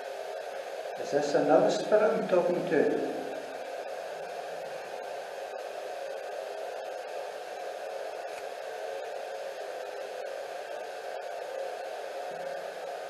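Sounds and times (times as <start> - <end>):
static-like hiss: 0.0 - 13.0.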